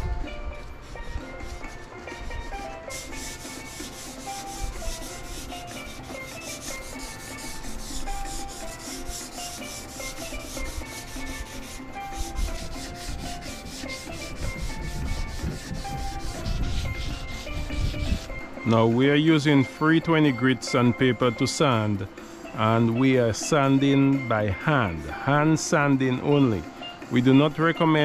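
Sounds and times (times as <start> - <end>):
sandpaper rubbing on metal: 0.0 - 18.5, 19.2 - 28.0.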